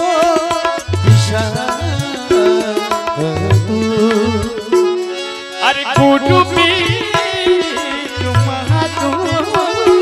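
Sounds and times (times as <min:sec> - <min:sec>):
harmonium melody: 0:00.0 - 0:10.0
tabla strokes: 0:00.0 - 0:10.0
sliding lead melody: 0:00.6 - 0:10.0.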